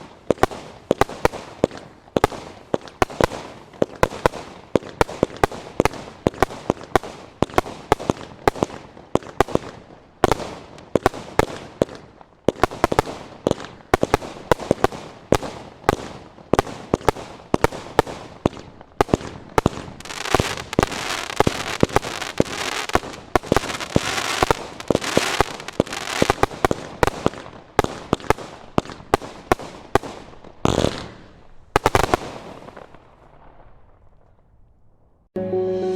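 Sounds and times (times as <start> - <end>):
fireworks bangs and crackling: 0.0 - 34.5.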